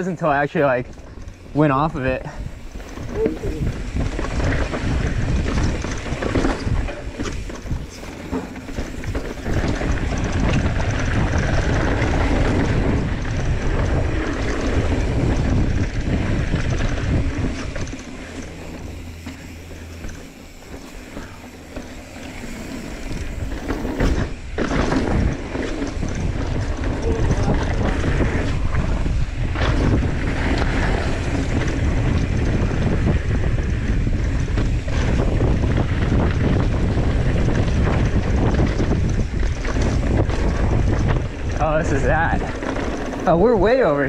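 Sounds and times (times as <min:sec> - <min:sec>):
bike rattling over bumps: 0:00.0 - 0:44.0
bike tyres on gravel: 0:00.0 - 0:44.0
wind on microphone: 0:00.7 - 0:44.0.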